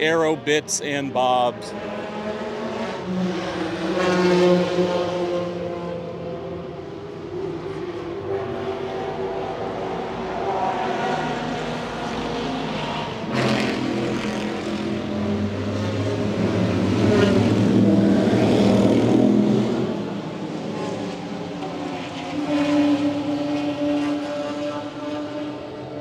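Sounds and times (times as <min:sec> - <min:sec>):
racing car engine: 0:00.0 - 0:26.0.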